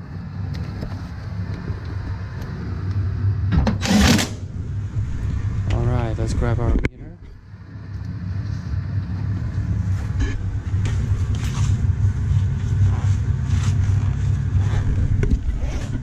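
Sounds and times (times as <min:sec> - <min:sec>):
furnace blower hum: 0:00.0 - 0:16.0.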